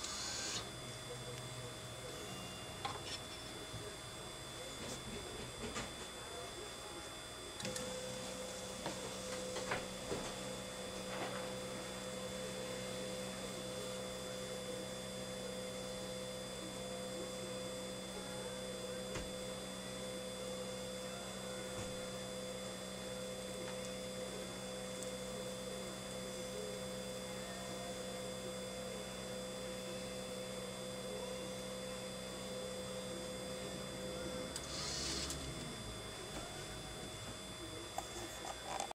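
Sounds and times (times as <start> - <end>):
gauge motor humming: 0.0 - 38.9.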